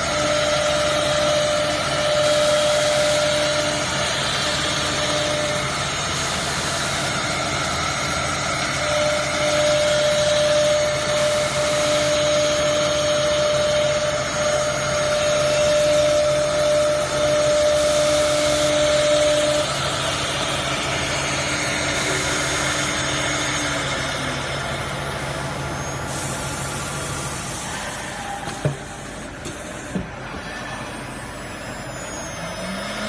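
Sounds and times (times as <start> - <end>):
router spindle motor whine: 0.0 - 29.3, 30.3 - 33.0.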